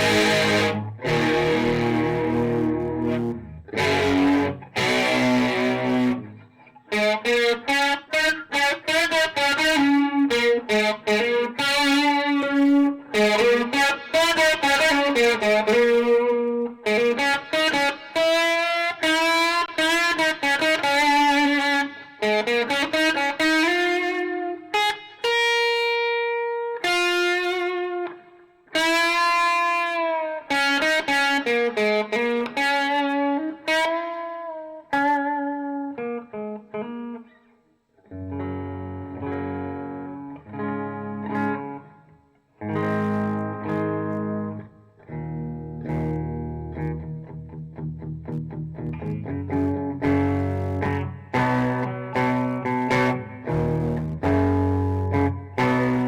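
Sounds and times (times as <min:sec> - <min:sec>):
electric guitar through an amp: 0:00.0 - 0:56.0.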